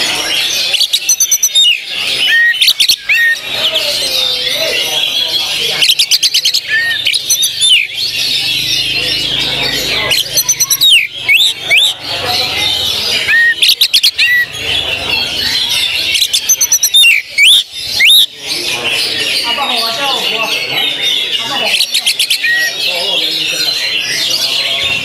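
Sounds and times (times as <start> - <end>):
chatter of songbirds: 0.0 - 25.0
songbird singing sharp repeated notes: 0.0 - 25.0.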